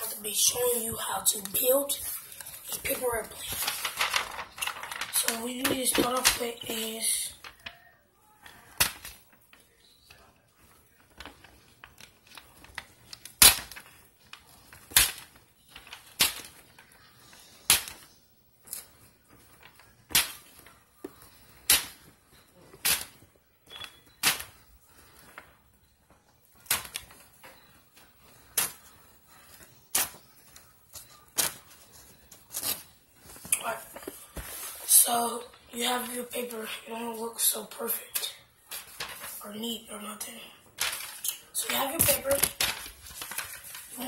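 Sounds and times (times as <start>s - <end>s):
paper crackling snaps: 0.1s - 34.1s, 40.8s - 44.0s.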